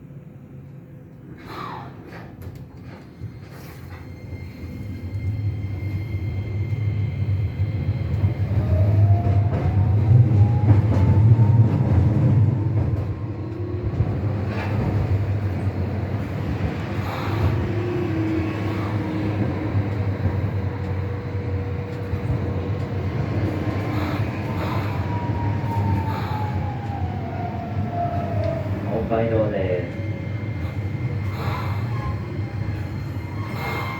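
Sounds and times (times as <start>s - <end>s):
tram rumble: 0.0s - 33.9s.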